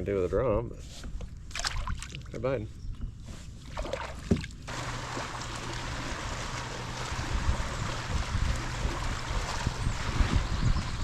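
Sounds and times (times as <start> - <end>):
water trickling and lapping: 1.2 - 2.4, 3.3 - 11.0.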